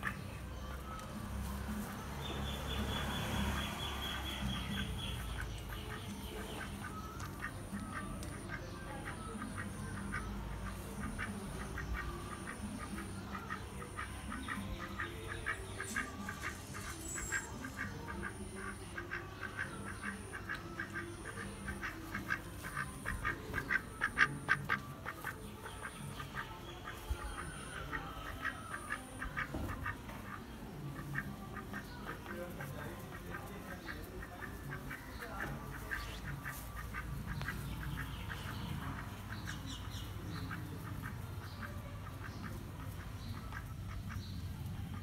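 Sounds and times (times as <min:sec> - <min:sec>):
duck quacking: 0:00.0 - 0:00.3, 0:02.4 - 0:45.0.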